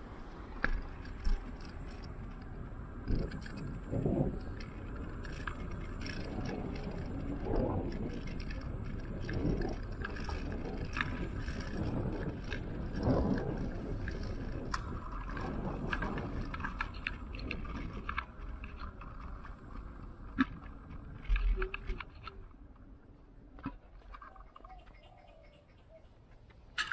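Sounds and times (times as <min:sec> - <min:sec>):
scooter rumbling rattle on concrete: 0:00.0 - 0:26.9.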